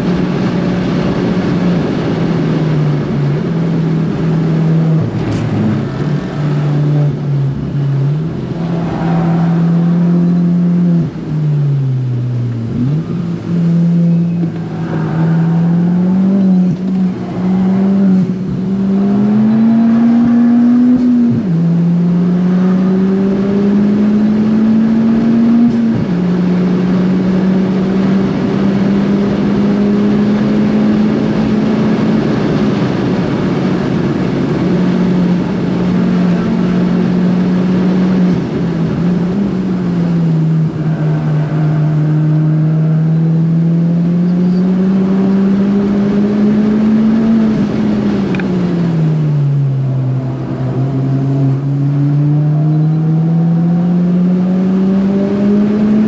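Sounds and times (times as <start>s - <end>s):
car engine accelerating: 0.0s - 56.0s
road and wind noise: 0.0s - 56.0s.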